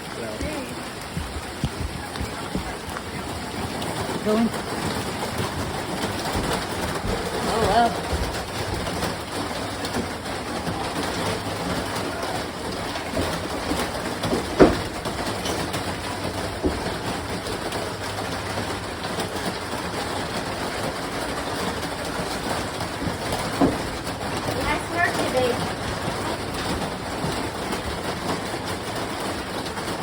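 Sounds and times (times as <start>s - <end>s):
steady rumbling: 0.0s - 30.0s.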